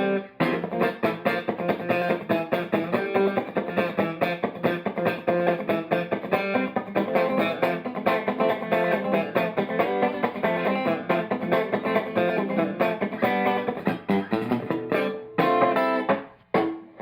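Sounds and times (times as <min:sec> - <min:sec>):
electric guitar playing: 0:00.0 - 0:17.0.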